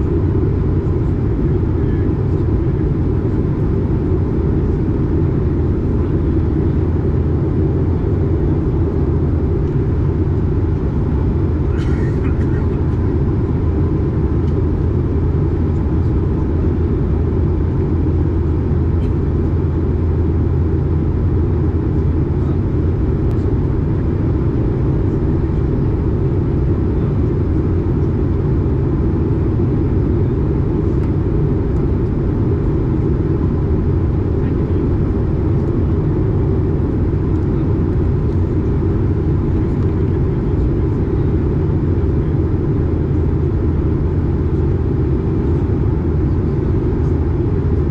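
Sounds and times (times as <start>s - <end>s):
jet engine drone: 0.0s - 47.9s.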